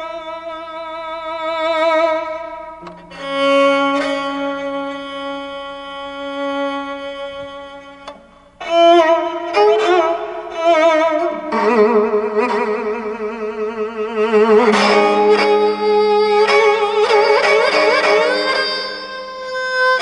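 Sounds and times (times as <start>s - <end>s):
bowed string melody with vibrato: 0.0s - 20.0s.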